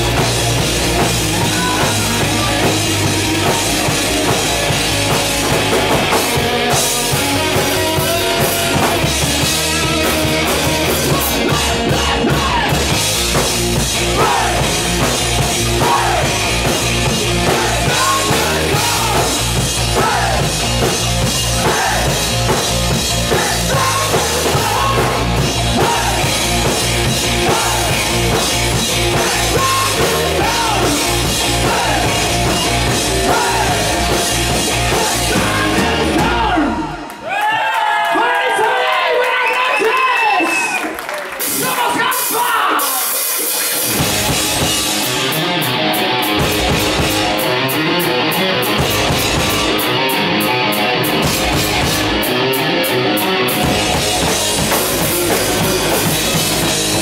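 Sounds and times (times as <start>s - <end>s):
hard rock band playing: 0.0s - 37.2s, 41.3s - 57.0s.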